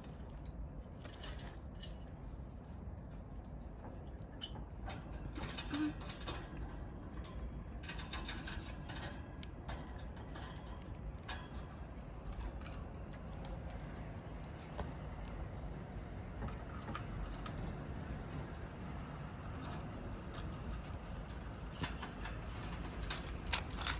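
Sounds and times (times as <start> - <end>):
birds pecking clicks and scratches: 0.0 - 23.9.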